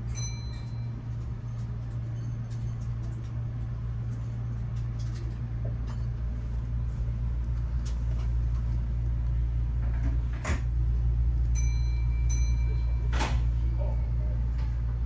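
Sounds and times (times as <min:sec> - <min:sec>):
train car low rumble: 0:00.0 - 0:15.0.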